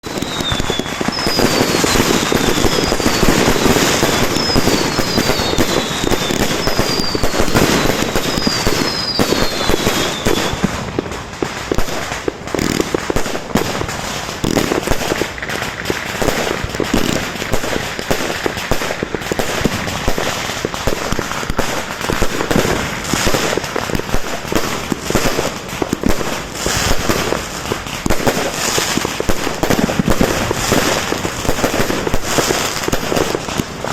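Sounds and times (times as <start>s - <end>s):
descending firework whistles: 0.0s - 33.9s
fireworks bangs and crackling: 0.0s - 33.9s.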